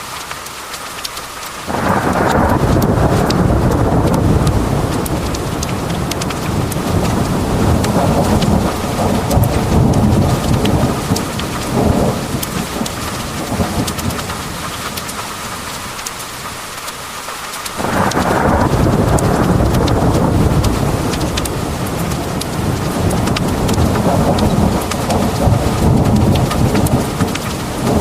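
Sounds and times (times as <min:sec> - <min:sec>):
heavy rain pouring: 0:00.0 - 0:28.0
raindrops ticking on hard surface: 0:00.0 - 0:28.0
loud thunder clap: 0:01.7 - 0:15.2, 0:17.8 - 0:28.0
thunder rumbling: 0:01.7 - 0:16.5, 0:17.8 - 0:28.0.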